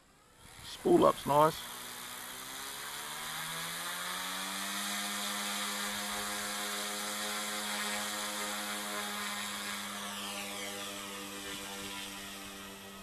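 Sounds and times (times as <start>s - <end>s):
toy helicopter rotors whining: 0.0s - 13.0s.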